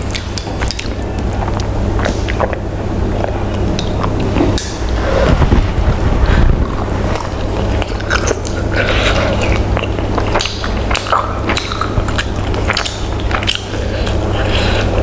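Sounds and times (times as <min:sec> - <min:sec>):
close chewing and biting food: 0:00.0 - 0:15.0.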